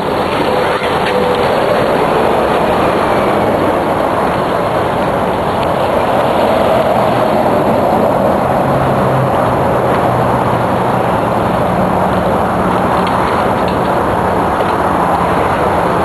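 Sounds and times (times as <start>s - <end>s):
wind and terrain noise: 0.0s - 16.0s.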